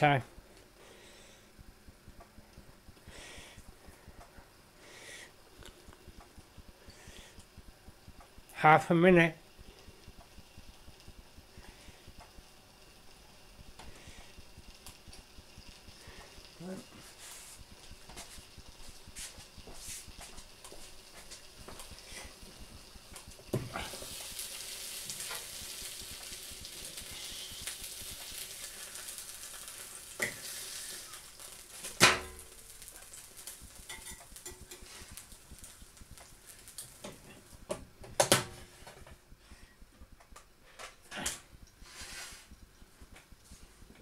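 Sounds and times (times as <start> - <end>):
dough sizzling with steady hiss: 0.0 - 44.0.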